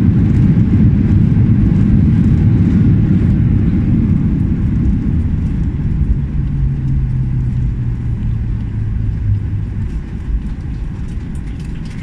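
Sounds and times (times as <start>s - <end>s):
cabin rumble: 0.0s - 12.0s
jet engines winding down: 0.0s - 12.0s.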